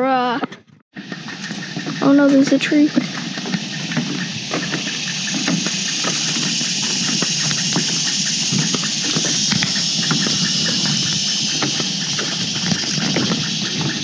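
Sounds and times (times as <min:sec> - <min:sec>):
footsteps on wooden boardwalk: 0:01.0 - 0:14.0
steady high hiss: 0:01.0 - 0:14.0.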